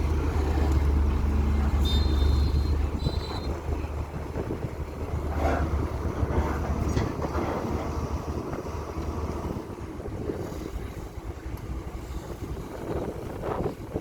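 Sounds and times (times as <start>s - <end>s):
excavator diesel engine rumbling: 0.0s - 14.0s
wind noise on microphone: 1.8s - 14.0s.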